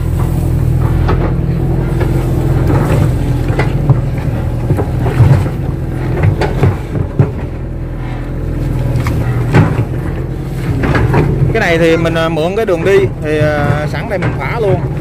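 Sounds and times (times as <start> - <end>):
excavator diesel engine running: 0.0 - 15.0
knocks and clanks: 0.0 - 15.0.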